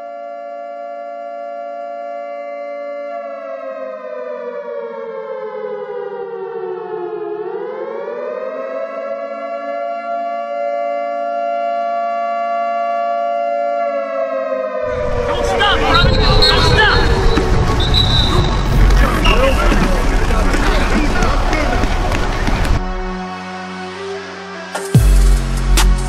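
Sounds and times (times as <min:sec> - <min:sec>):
siren wailing: 0:00.1 - 0:22.9.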